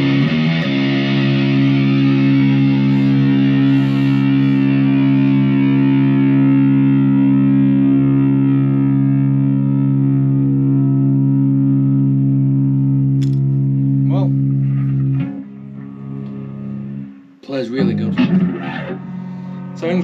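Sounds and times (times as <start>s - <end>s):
distorted electric guitar chord: 0.0s - 20.0s.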